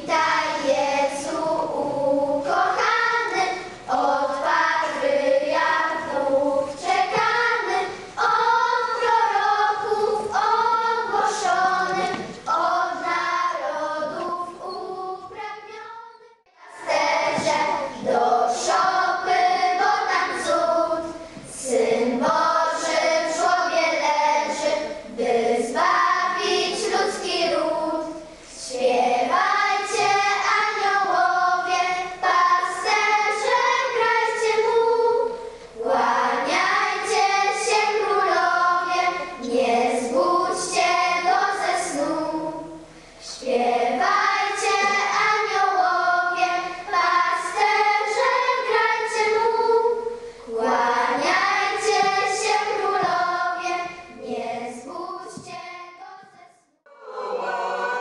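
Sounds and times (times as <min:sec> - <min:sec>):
children's choir singing a carol: 0:00.0 - 0:58.0.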